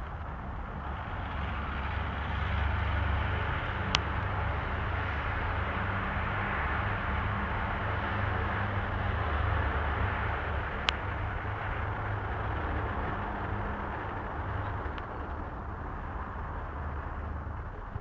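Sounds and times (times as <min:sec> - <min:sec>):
city traffic din: 0:00.0 - 0:18.0.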